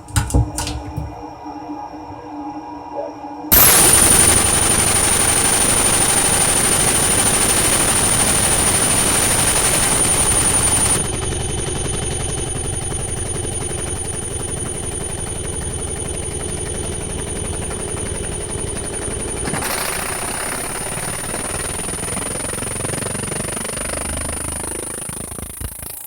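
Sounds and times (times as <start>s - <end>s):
laser printer mechanical chatter: 3.5s - 26.0s
printer high whine: 3.5s - 26.0s.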